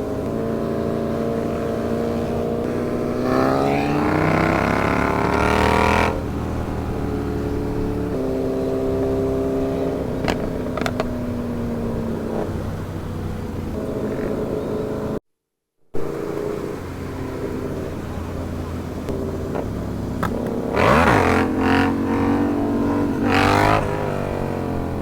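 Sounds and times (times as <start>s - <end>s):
motorcycle engine revving: 0.0s - 15.2s, 16.0s - 25.0s.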